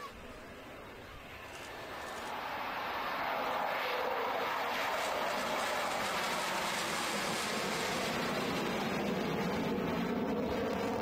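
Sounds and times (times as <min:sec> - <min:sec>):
jet fighter flying past: 0:00.0 - 0:11.0.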